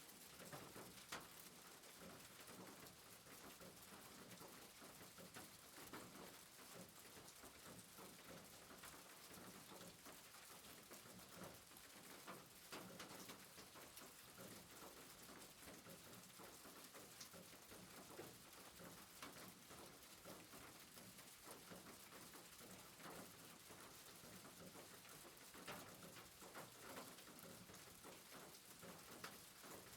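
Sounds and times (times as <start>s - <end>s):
soft rain pattering: 0.0s - 29.9s.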